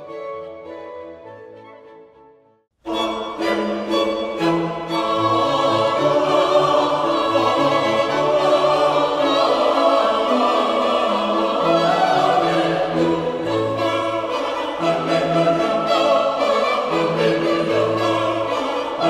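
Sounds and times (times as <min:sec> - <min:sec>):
orchestra with choir: 0:00.0 - 0:19.0.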